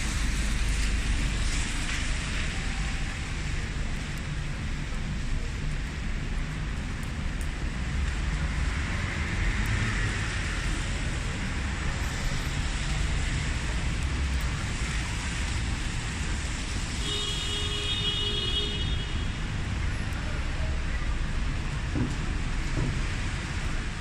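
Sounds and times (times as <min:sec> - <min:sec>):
traffic rumble: 0:00.0 - 0:24.0
tyre hiss on wet road: 0:00.0 - 0:24.0.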